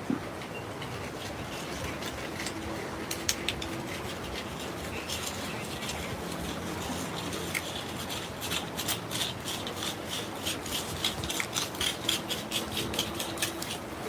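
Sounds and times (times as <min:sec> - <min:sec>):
digging tool scraping soil: 0:00.4 - 0:14.0.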